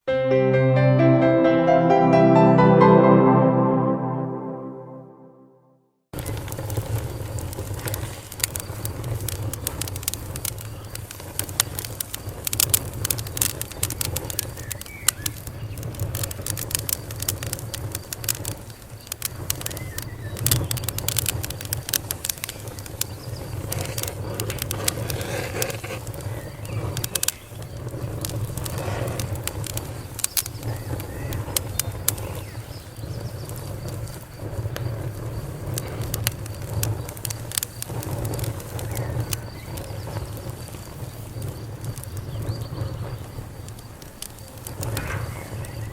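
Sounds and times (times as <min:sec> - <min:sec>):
campfire crackling and popping: 0:06.2 - 0:45.9.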